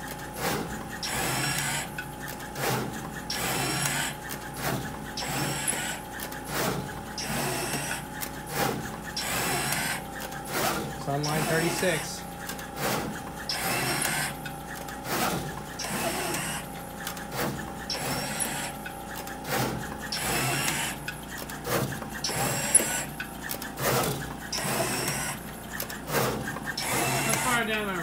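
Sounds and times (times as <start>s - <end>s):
machine motors whirring and clicking: 0.0s - 28.0s.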